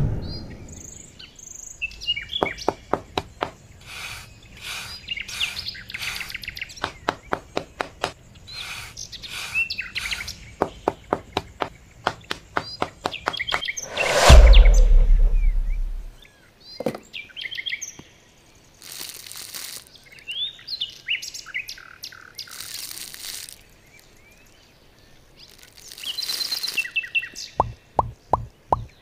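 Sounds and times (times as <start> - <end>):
small birds chirping: 0.3 - 13.9, 16.3 - 29.0.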